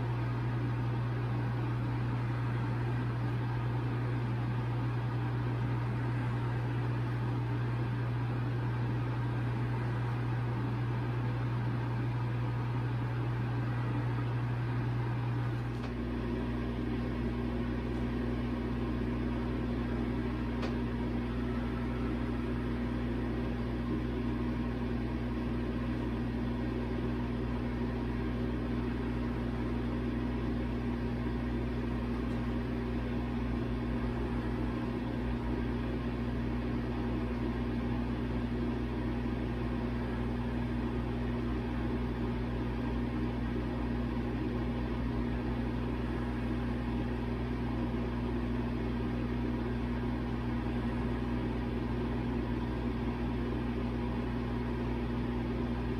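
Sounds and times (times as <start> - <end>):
machine humming: 0.0 - 55.9.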